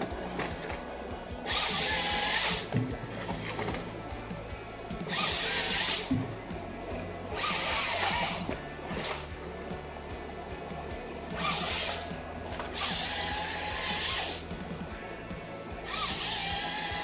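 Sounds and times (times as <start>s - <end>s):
chainsaw cutting log: 0.0s - 9.4s, 10.3s - 14.9s, 15.8s - 17.0s
machine running steadily: 0.0s - 17.0s.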